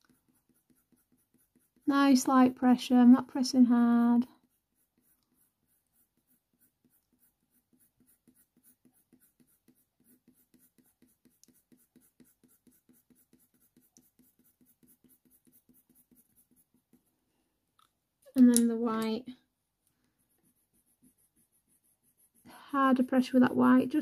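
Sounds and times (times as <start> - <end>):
colour pencil scratching on paper: 0.0 - 17.2, 20.0 - 24.0.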